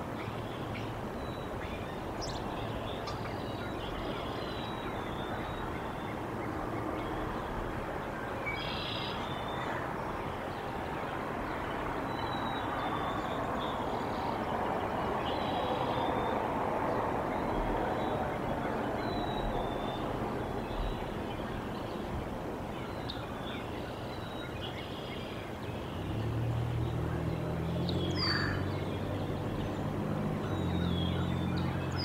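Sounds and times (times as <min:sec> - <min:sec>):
outdoor background rush: 0:00.0 - 0:32.0.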